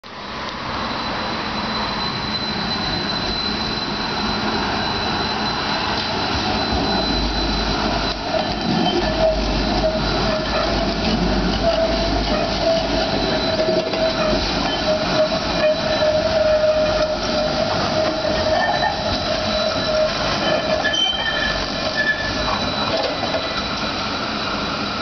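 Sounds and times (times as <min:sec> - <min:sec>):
tram running on rails: 0:00.0 - 0:25.0
wheels squealing on curve: 0:00.8 - 0:24.6.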